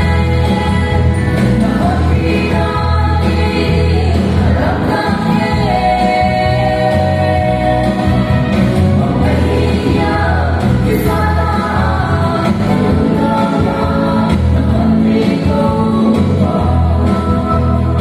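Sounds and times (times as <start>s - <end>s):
instrumental accompaniment with bass: 0.0s - 18.0s
woman singing gospel song: 0.0s - 18.0s.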